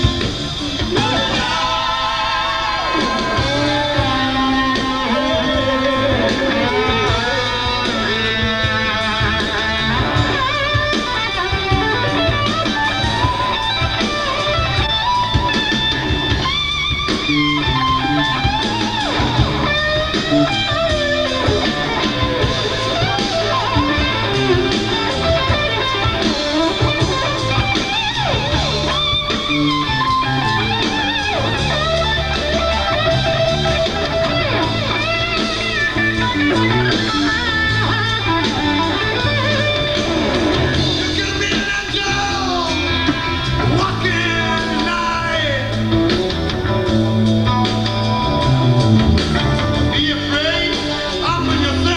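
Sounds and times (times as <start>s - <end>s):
electric guitar lead: 0.0s - 51.9s
live rock band playing: 0.0s - 51.9s.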